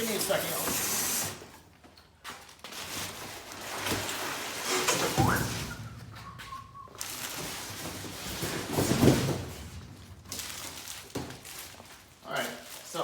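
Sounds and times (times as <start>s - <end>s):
rustling and scraping: 2.2s - 13.0s.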